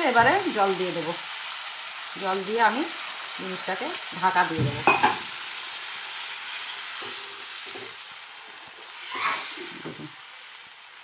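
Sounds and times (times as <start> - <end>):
curry sizzling in a frying pan: 0.0 - 11.0.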